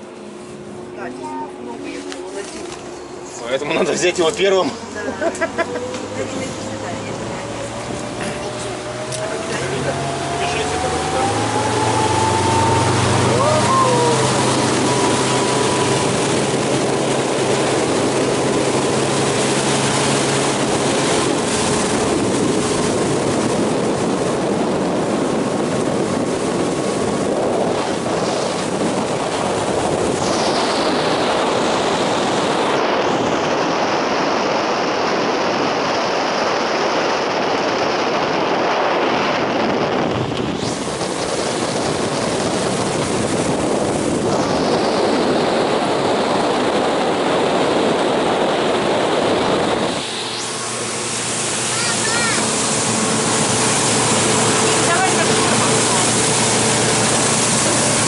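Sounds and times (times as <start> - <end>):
boat engine hum: 0.0 - 58.0
water streaming off hull: 0.0 - 58.0
wind buffeting microphone: 0.0 - 58.0.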